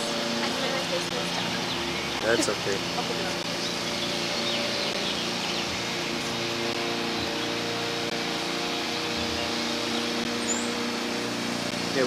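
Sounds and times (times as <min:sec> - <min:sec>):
even hiss: 0:00.0 - 0:12.0
mechanical hum: 0:00.0 - 0:12.0.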